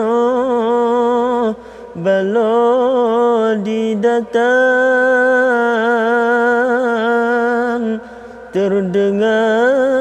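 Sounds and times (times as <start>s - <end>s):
person chanting unaccompanied: 0.0s - 10.0s.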